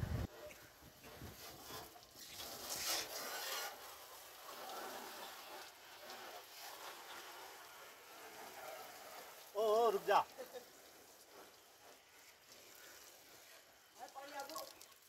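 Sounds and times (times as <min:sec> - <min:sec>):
water hiss and splashing: 0:00.0 - 0:15.0
wet cloth scrubbing tyre: 0:00.1 - 0:15.0.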